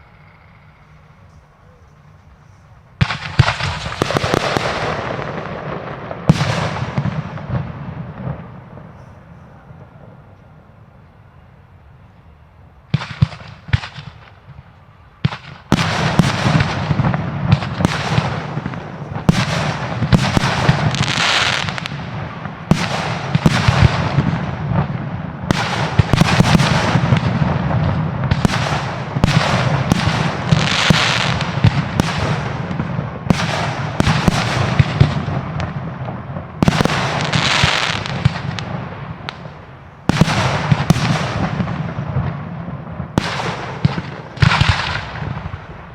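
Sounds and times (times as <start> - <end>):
hissing crackle of fireworks: 0.0 - 45.9
fireworks bangs and crackling: 1.3 - 11.0, 12.8 - 45.9.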